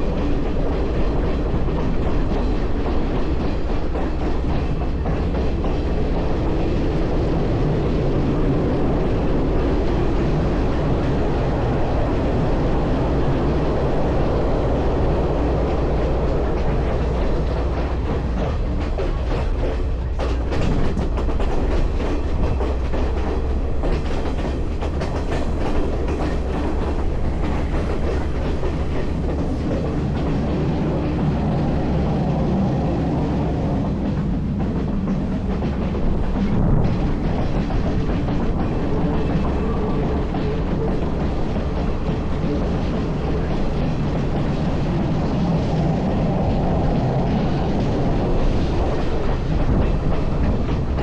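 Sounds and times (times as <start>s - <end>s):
train rumbling on rails: 0.0s - 51.0s
wheels clicking over rail joints: 0.0s - 51.0s.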